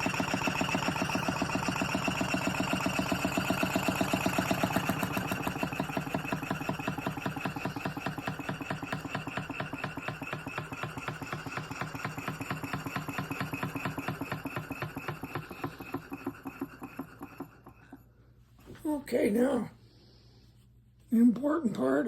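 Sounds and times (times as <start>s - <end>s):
sewing machine clatter: 0.0s - 18.0s.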